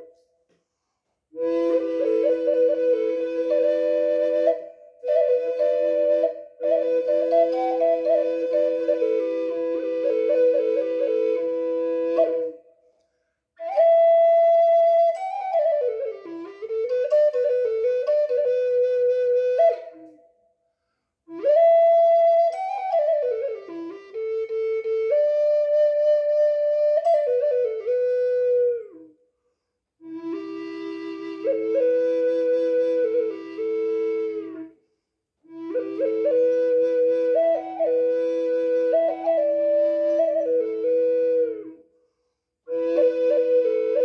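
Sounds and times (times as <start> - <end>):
wooden flute melody: 0.0 - 29.2, 30.0 - 44.0.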